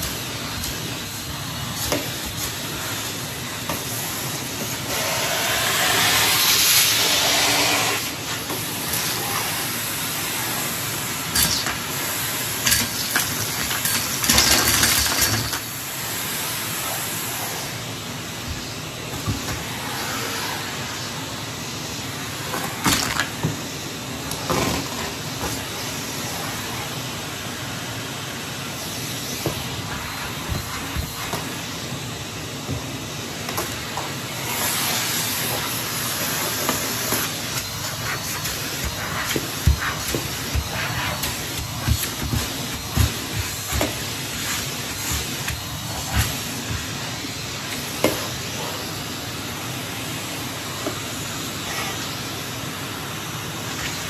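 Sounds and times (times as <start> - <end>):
vacuum cleaner hissing: 0.0 - 54.0.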